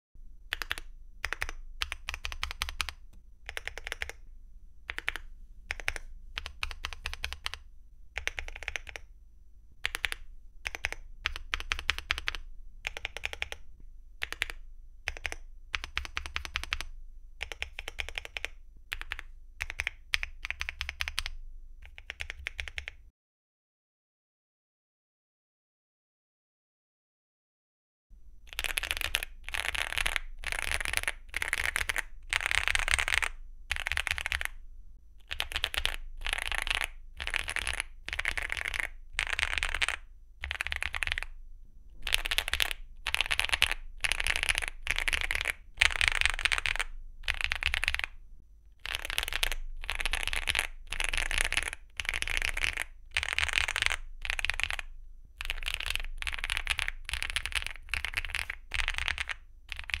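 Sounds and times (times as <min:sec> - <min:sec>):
mechanical keyboard typing: 0:00.5 - 0:04.2, 0:04.9 - 0:09.1, 0:09.8 - 0:23.0, 0:28.5 - 0:34.6, 0:35.2 - 0:41.4, 0:42.0 - 0:48.2, 0:48.8 - 1:00.0.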